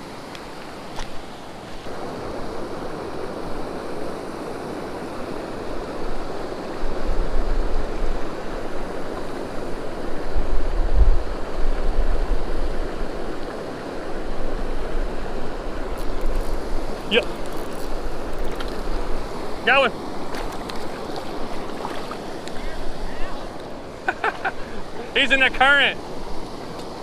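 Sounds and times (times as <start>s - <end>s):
river water rushing over dam: 0.0s - 27.0s
wind rumbling on microphone: 1.0s - 25.1s.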